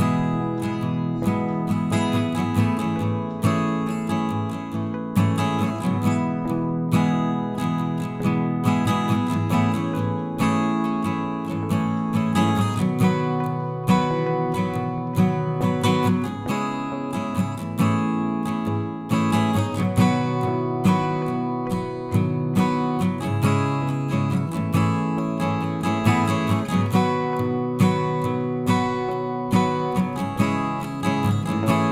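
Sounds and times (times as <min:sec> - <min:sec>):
acoustic guitar picked and strummed: 0:00.0 - 0:31.9.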